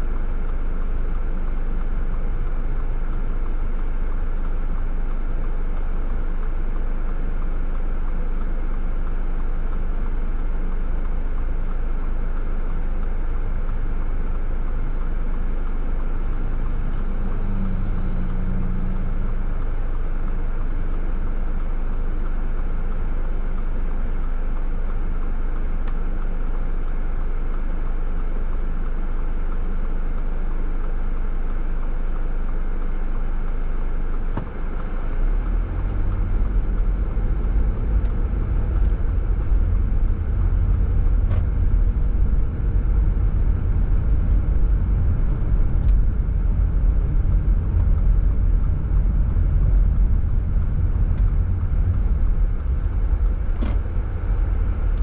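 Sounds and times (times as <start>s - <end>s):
car engine running: 0.0s - 55.0s
brief low hum: 9.1s - 31.1s, 32.0s - 55.0s.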